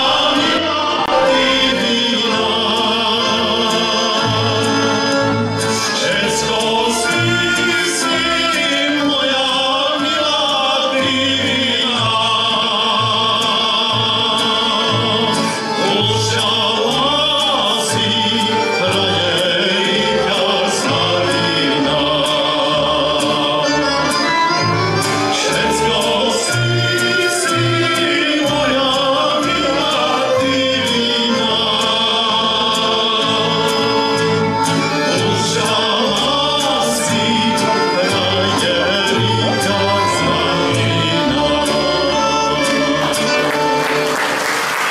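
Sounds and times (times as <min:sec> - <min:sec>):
man singing: 0:00.0 - 0:43.8
folk band with violin and accordions: 0:00.0 - 0:44.9.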